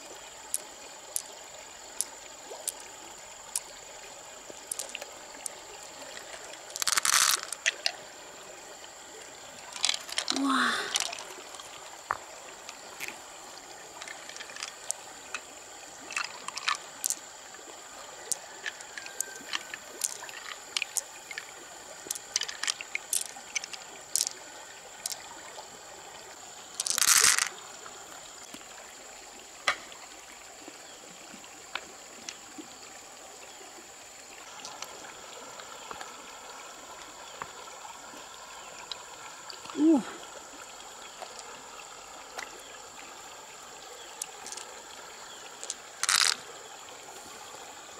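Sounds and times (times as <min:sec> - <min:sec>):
stream water running: 0:00.0 - 0:47.9.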